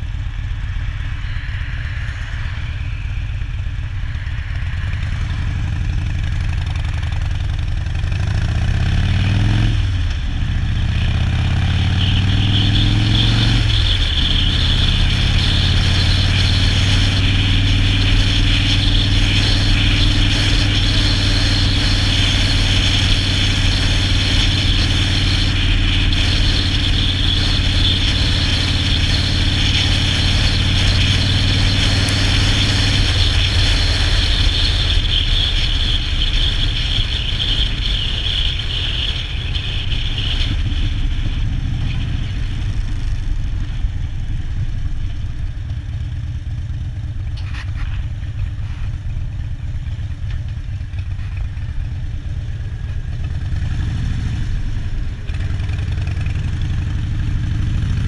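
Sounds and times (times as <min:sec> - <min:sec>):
motorcycle engine cruising: 0:00.0 - 0:58.0
road and wind noise: 0:00.0 - 0:58.0.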